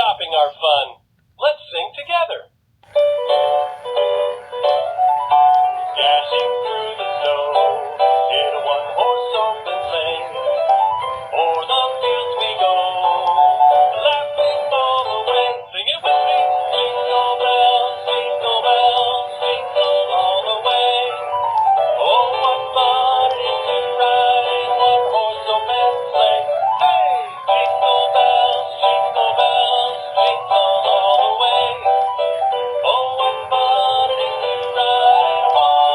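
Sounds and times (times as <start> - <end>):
tinny christmas song from toy speaker: 0.0 - 35.9.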